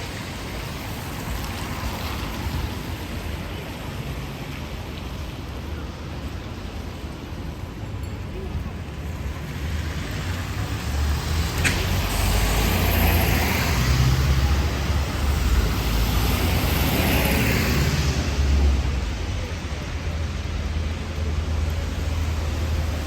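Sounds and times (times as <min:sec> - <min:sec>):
vehicle passing on wet street: 0:00.0 - 0:07.8, 0:08.4 - 0:23.0
rain: 0:00.0 - 0:23.0
traffic noise: 0:00.0 - 0:23.0.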